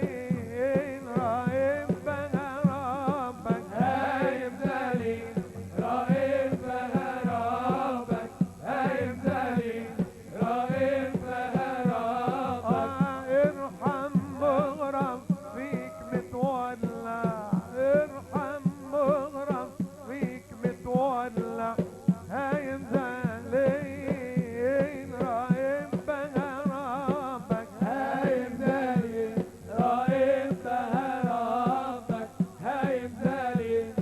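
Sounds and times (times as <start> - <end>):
steady drum beat: 0.0 - 34.0.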